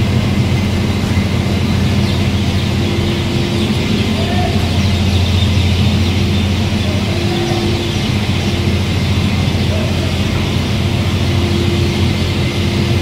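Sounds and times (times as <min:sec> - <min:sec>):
high steady machine tone: 0:00.0 - 0:13.0
industrial machine drone: 0:00.0 - 0:13.0.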